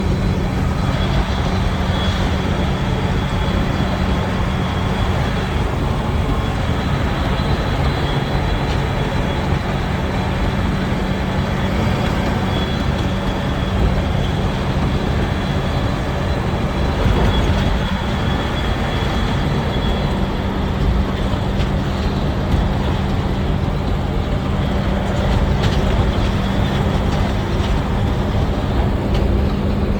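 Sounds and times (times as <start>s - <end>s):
engine running steadily: 0.0s - 29.9s.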